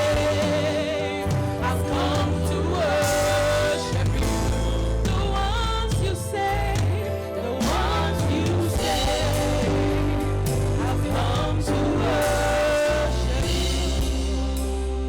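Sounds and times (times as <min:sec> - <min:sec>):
band with bass and drums: 0:00.0 - 0:15.0
gospel singer: 0:00.0 - 0:15.0.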